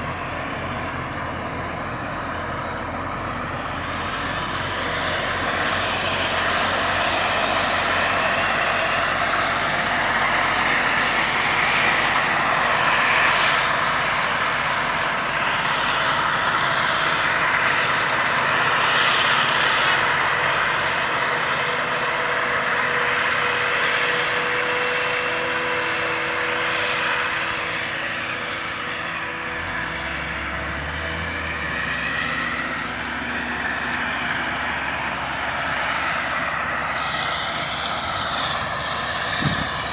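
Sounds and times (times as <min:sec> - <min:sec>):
faint whine: 0:00.0 - 0:39.9
forage harvester engine din: 0:00.0 - 0:39.9.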